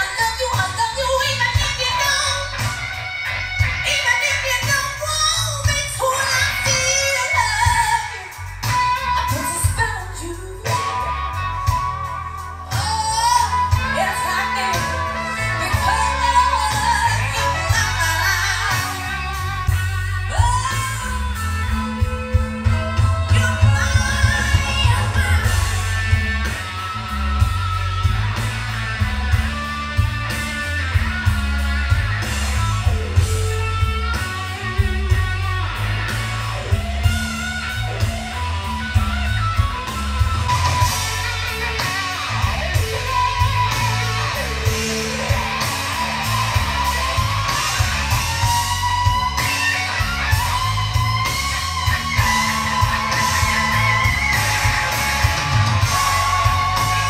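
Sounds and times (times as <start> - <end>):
rock music over loudspeakers: 0.0 - 57.0.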